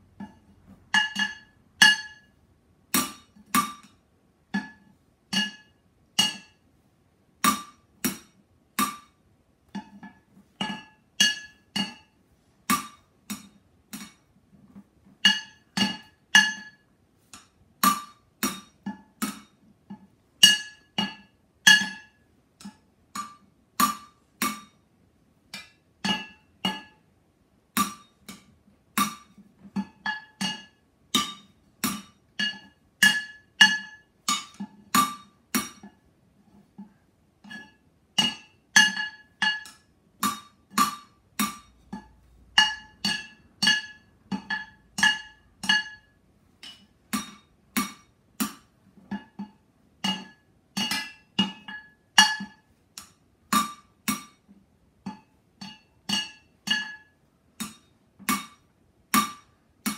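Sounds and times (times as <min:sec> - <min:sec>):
drumsticks beating cooking pots: 0:00.0 - 0:06.6, 0:07.4 - 0:24.8, 0:25.4 - 0:27.1, 0:27.7 - 0:59.9.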